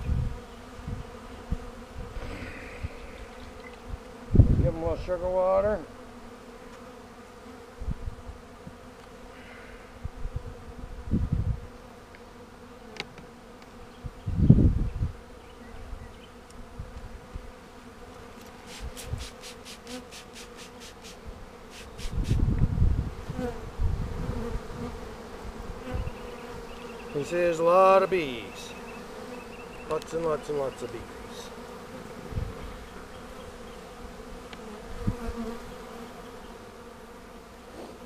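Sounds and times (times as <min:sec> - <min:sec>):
bees buzzing: 0:00.0 - 0:38.0.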